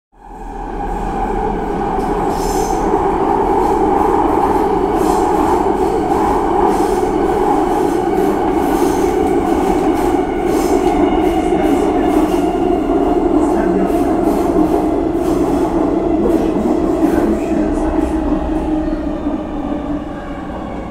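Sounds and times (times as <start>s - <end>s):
subway train wheels rumbling: 0.2s - 20.9s.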